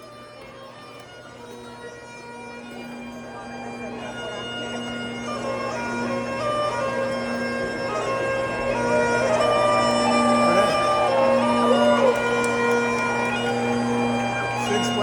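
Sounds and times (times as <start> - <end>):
bagpipes playing: 0.0 - 15.0.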